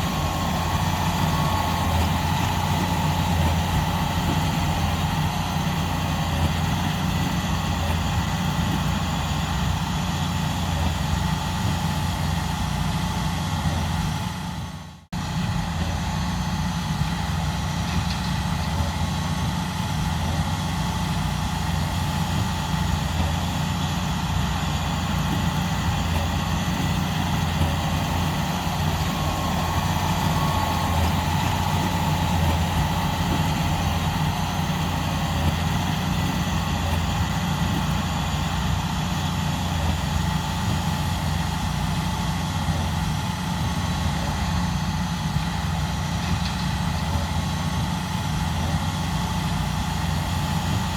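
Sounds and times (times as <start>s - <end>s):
tractor diesel engine droning: 0.0s - 50.9s.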